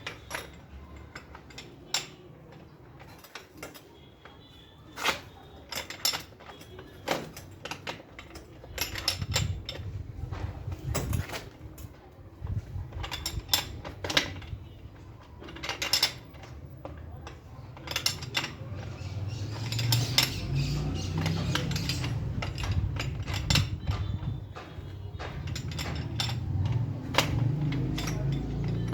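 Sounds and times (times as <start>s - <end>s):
metal tools clinking: 0.0s - 28.9s.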